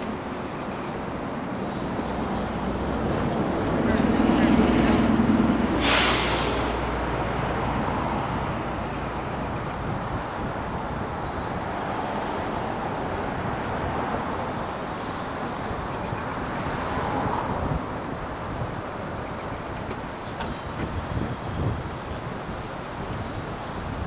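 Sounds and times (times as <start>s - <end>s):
large waterfall rushing: 0.0s - 24.0s
wind rumbling on microphone: 0.0s - 24.0s.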